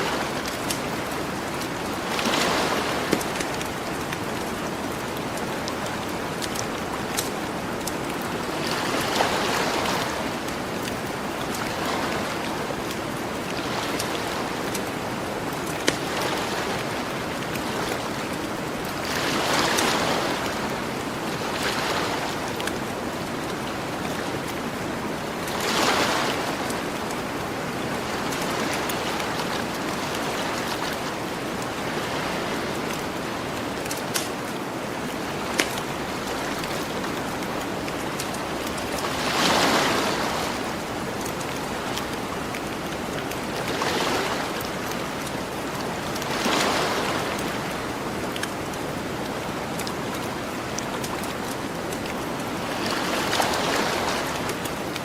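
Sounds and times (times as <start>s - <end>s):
ocean surf washing ashore: 0.0s - 55.0s.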